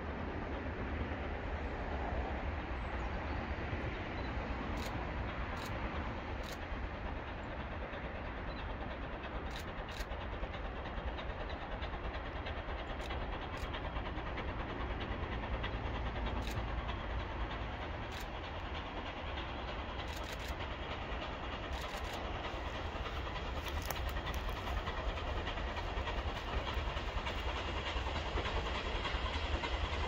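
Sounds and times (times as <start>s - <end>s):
distant steam locomotive rumble: 0.0s - 30.0s.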